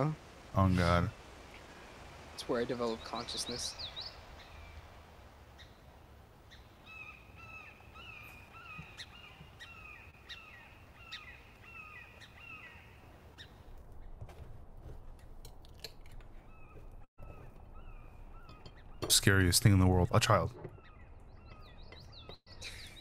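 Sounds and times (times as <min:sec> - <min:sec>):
faint bird chirps: 0:01.1 - 0:04.9, 0:05.5 - 0:14.2, 0:16.4 - 0:23.0.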